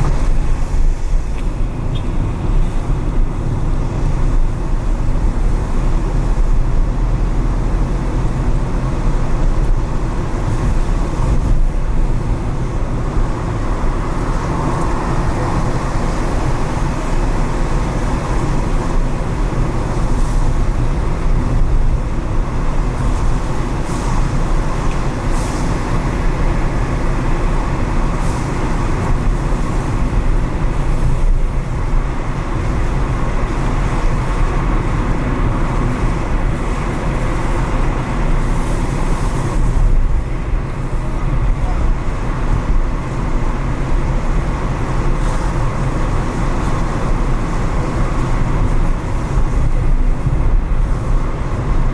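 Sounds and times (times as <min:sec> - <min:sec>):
car engine and tyres rumbling: 0:00.0 - 0:51.9
tyres hissing on wet pavement: 0:07.4 - 0:51.9.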